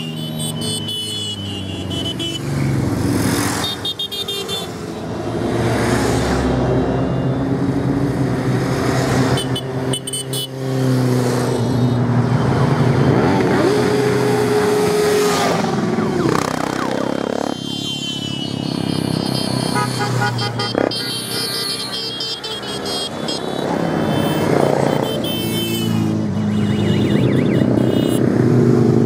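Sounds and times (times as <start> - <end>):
motorcycles riding past: 2.4 - 29.0.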